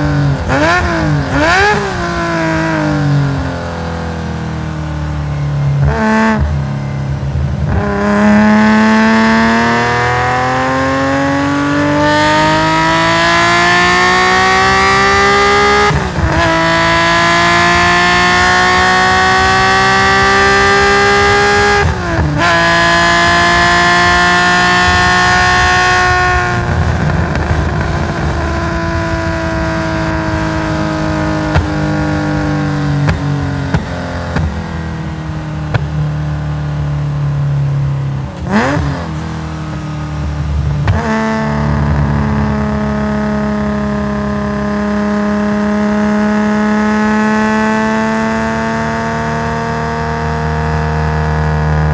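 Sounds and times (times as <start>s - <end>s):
race car engine pulling hard: 0.0s - 51.9s.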